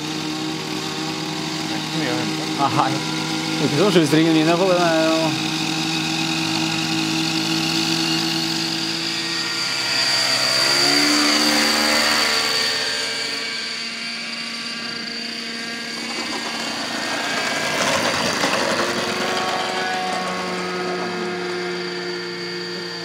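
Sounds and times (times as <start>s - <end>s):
model airplane engine whine: 0.0s - 23.0s.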